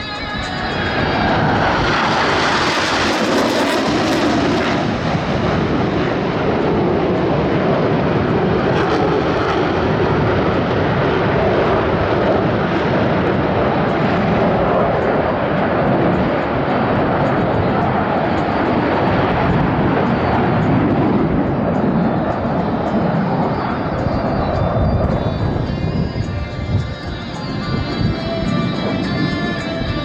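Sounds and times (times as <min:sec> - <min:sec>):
jet engines flying past: 0:00.0 - 0:30.0.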